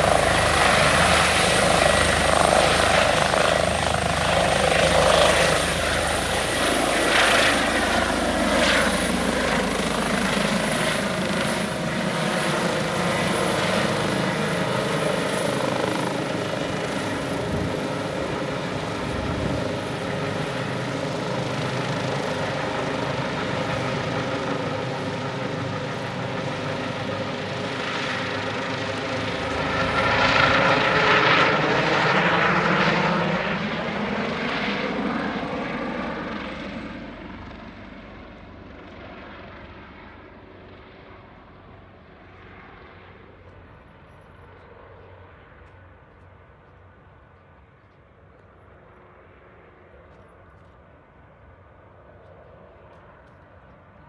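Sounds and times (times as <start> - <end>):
helicopter passing overhead: 0.0 - 54.0.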